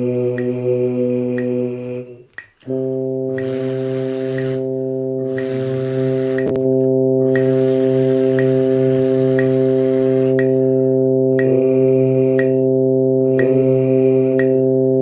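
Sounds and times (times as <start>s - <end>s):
brass mouthpiece buzzing low note: 0.0s - 15.0s
metronome clicking: 0.1s - 14.7s.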